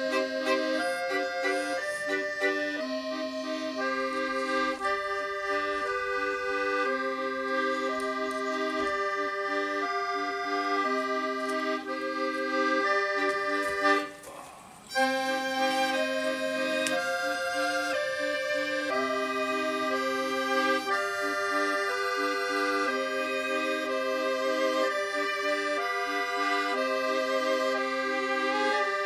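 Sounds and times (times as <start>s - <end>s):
accordion music with held chords: 0.0s - 14.3s, 14.9s - 29.0s.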